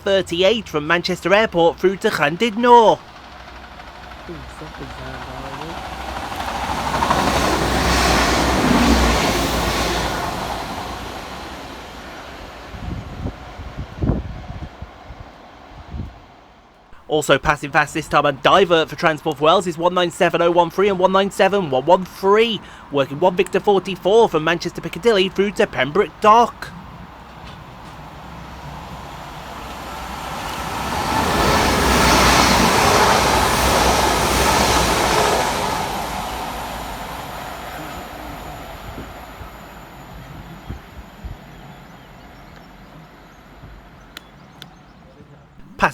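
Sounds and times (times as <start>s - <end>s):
diesel train passing fast: 0.0s - 44.6s.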